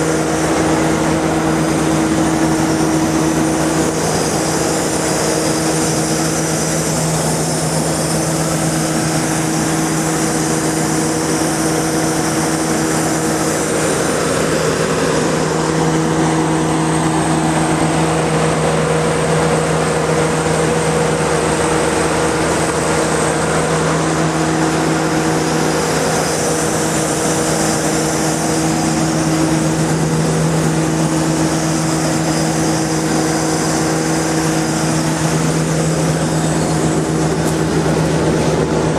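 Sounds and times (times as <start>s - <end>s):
spraying machine droning: 0.0s - 38.9s.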